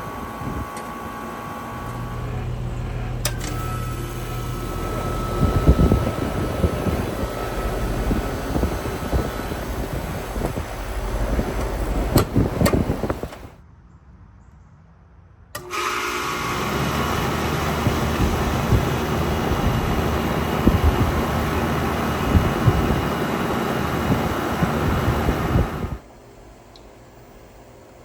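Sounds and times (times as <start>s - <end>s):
air conditioner whirring: 0.0s - 13.6s, 15.6s - 28.0s
compressor hum: 0.0s - 13.6s, 15.6s - 28.0s.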